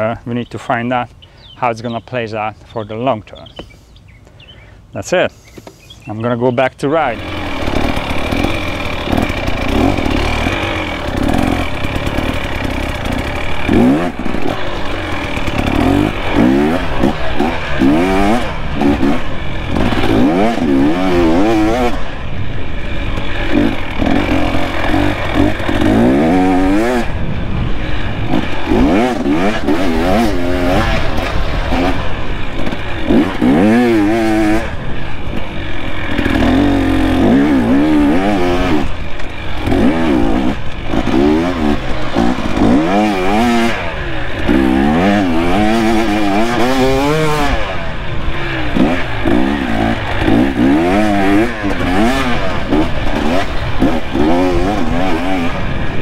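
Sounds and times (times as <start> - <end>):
dirt bike engine revving: 5.3 - 56.0.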